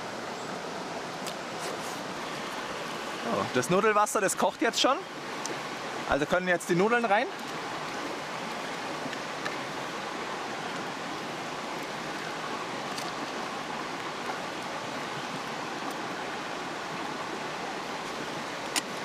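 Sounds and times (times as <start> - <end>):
campfire crackling: 1.2 - 19.0.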